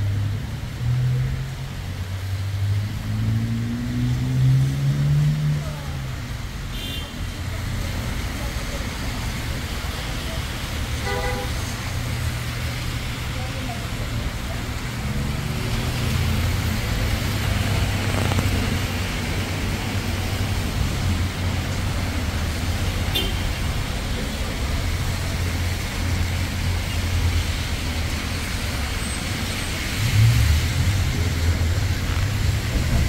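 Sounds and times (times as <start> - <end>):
low rumble of vehicles: 0.0 - 33.0
tyres hissing on wet road: 0.0 - 33.0.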